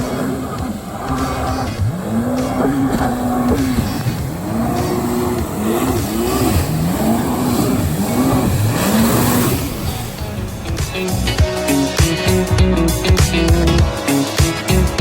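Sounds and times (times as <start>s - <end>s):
jet ski engine revving: 0.0s - 15.0s
rough rushing noise: 0.0s - 15.0s.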